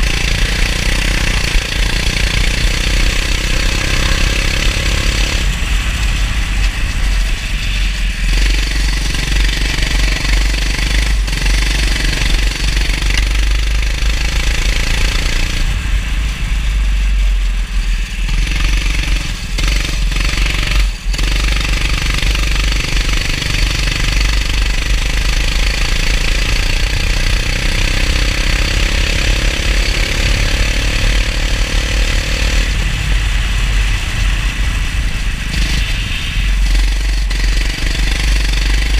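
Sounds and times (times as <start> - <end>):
go-kart engine revving: 0.0 - 16.8, 18.1 - 38.9
steady hiss: 0.0 - 27.2, 31.0 - 38.9.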